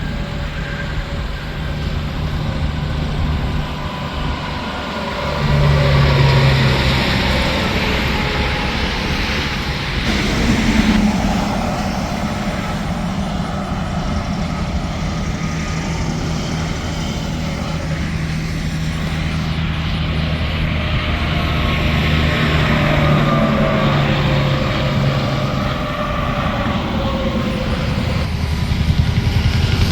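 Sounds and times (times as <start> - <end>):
highway traffic passing: 0.4 - 29.9.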